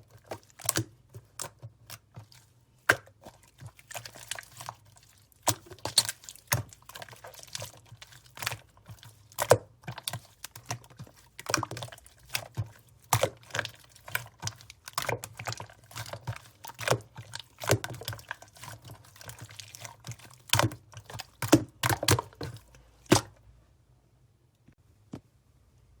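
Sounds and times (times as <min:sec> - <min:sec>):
slime squelching and popping: 0:00.0 - 0:23.4.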